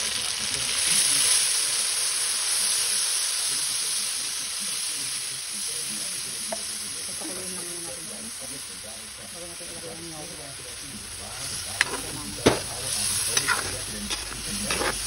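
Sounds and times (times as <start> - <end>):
chicken sizzling in a wok: 0.0 - 15.0.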